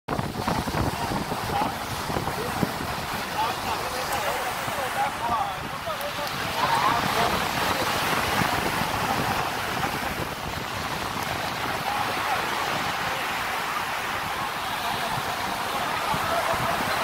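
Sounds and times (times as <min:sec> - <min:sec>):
faint voices: 0:00.1 - 0:17.0
surf breaking on beach: 0:00.1 - 0:17.0
wind on microphone: 0:00.1 - 0:17.0.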